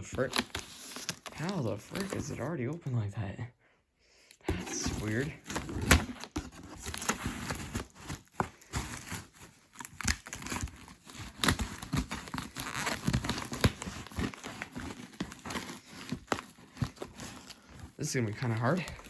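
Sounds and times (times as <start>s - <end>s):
cardboard crinkling and rustling: 0.0s - 2.5s, 4.5s - 19.0s.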